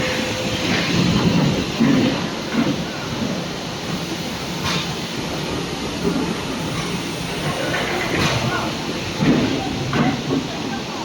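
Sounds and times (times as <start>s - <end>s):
production line machinery din: 0.0s - 10.9s.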